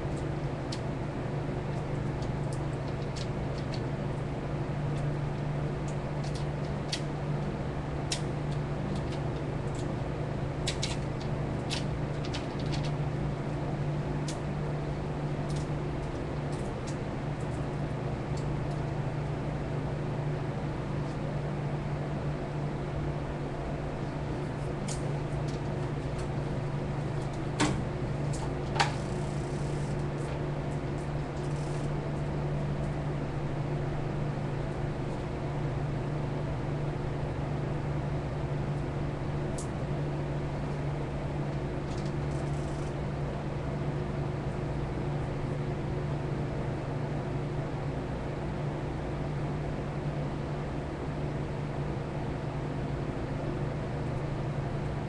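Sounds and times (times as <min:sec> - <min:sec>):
low hum and hiss: 0:00.0 - 0:55.0.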